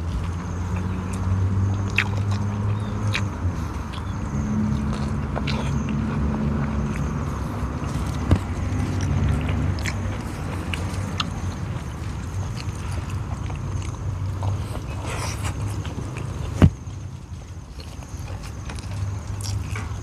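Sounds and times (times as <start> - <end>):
biting and chewing clicks: 0.0 - 20.0.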